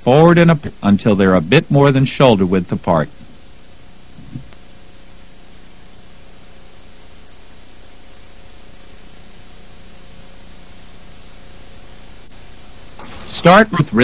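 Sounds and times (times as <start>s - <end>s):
faint hum: 0.0s - 14.0s
static hiss: 0.0s - 14.0s.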